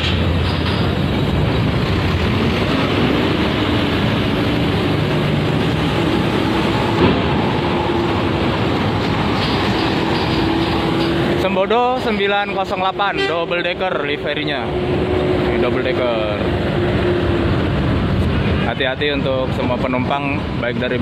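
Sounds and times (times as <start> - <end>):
bus diesel engine driving past: 0.0 - 18.8.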